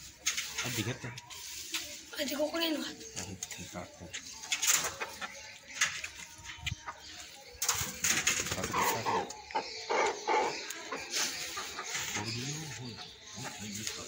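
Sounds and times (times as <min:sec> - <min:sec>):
chicken clucking: 0:00.0 - 0:14.0.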